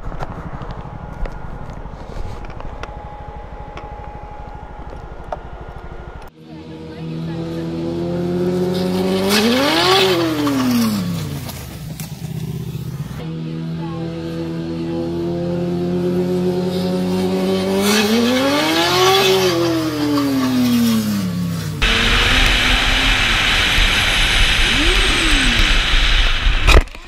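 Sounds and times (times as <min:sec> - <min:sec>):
motorcycle passing at speed: 0:00.0 - 0:27.0.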